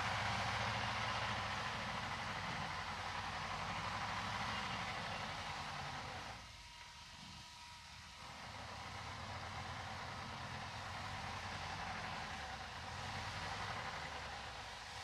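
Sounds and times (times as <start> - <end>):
diesel engine running: 0.0 - 6.4, 8.2 - 15.0.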